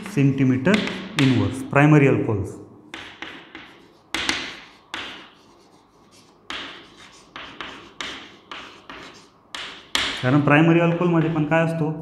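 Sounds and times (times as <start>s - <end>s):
chalk tapping and scratching: 0.0s - 1.5s, 2.9s - 11.5s.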